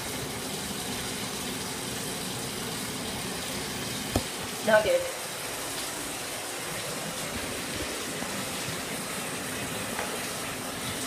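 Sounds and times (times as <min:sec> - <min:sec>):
bathtub faucet running: 0:00.0 - 0:11.0.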